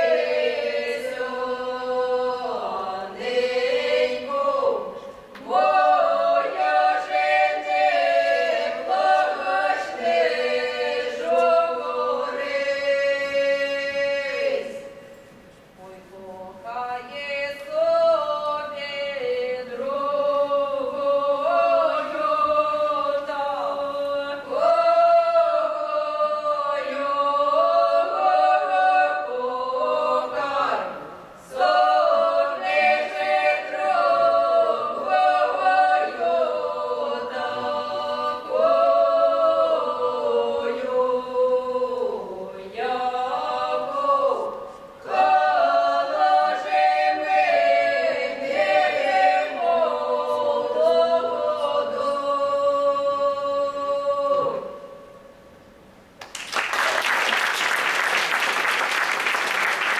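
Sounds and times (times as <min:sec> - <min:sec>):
mixed choir singing a cappella: 0:00.0 - 0:55.4.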